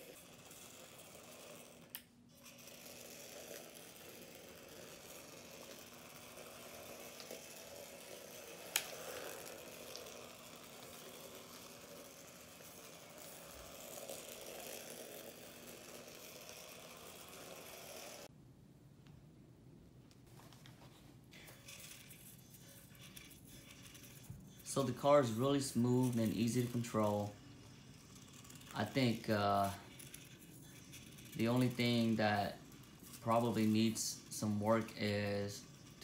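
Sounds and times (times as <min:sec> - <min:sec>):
toy car electric motor whirring: 0:00.0 - 0:18.3, 0:21.4 - 0:36.0.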